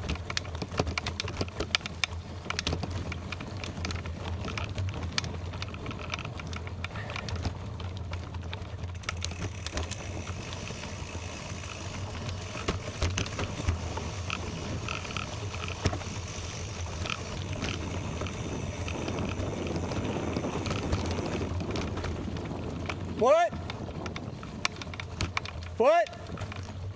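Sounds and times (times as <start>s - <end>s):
bicycle tyres crunching gravel: 0.0s - 26.9s
clicks and rattles: 0.0s - 26.9s.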